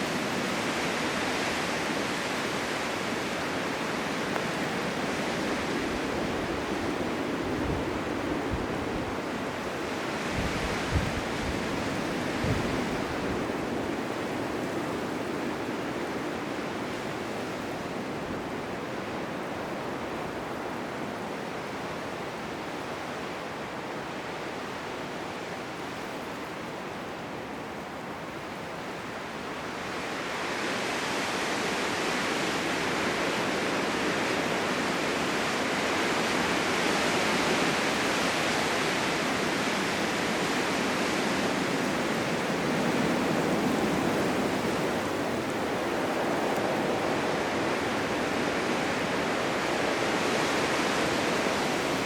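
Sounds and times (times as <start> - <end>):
blizzard wind blowing: 0.0 - 52.0.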